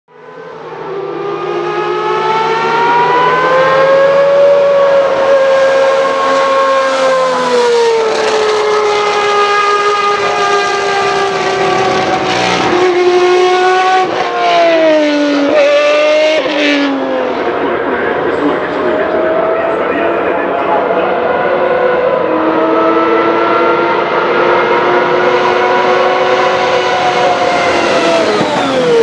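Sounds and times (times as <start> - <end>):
race car engine at high revs: 0.1 - 29.0
car downshifting: 0.8 - 29.0.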